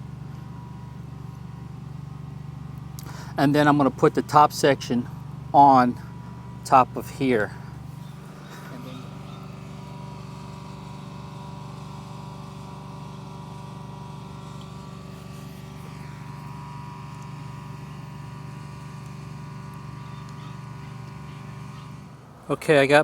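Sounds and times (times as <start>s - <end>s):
motor humming: 2.4s - 12.2s, 13.5s - 22.8s.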